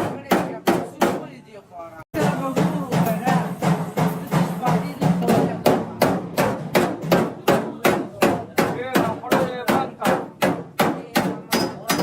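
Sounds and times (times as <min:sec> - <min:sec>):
hammer on sheet metal: 0:00.0 - 0:01.4, 0:02.2 - 0:12.0.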